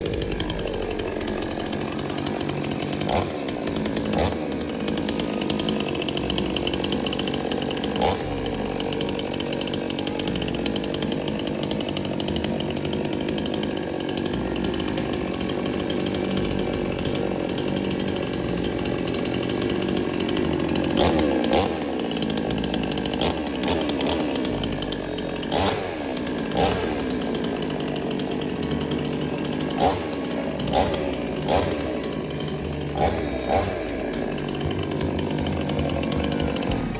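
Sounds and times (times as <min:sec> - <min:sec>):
chainsaw running: 0:00.0 - 0:36.9.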